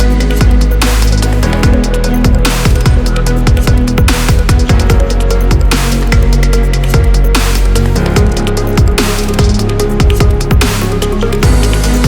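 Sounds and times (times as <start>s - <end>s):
electronic drum and bass music: 0.0s - 12.0s.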